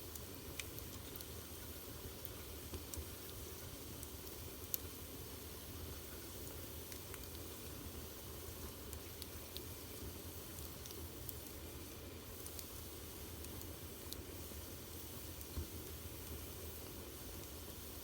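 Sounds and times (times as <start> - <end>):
fire crackling and popping: 0.0 - 18.0
wood fire hissing: 0.0 - 18.0.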